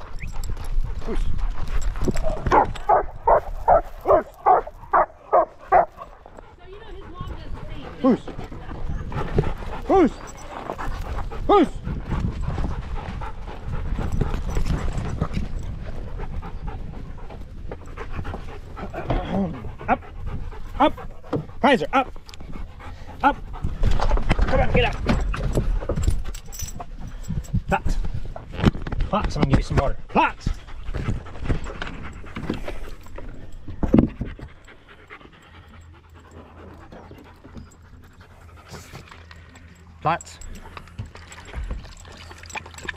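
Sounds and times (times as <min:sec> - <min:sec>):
dog panting: 0:00.0 - 0:27.7, 0:29.7 - 0:42.9.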